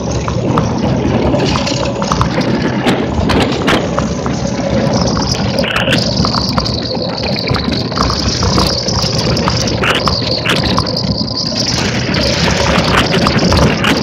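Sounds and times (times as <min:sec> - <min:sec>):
wind and tyre spray rushing: 0:00.0 - 0:14.0.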